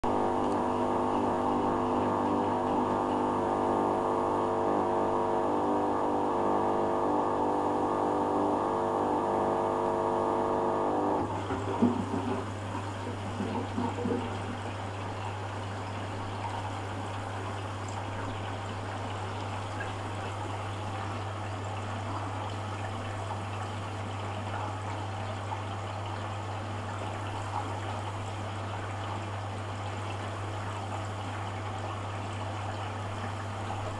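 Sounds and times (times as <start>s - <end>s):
washing machine humming: 0.0s - 33.9s.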